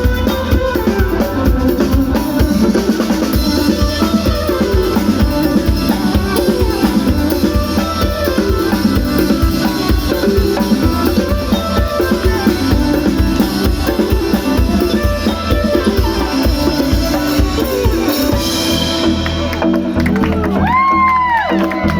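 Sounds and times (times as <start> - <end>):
drum kit and percussion: 0.0 - 21.9
live band music: 0.0 - 21.9.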